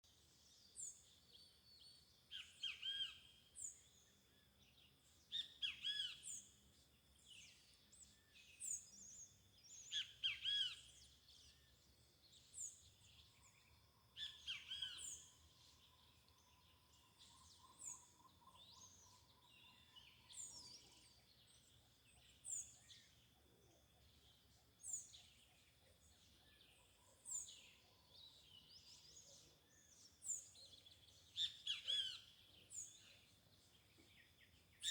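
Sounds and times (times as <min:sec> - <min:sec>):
lower bird chirps: 0:00.1 - 0:34.9.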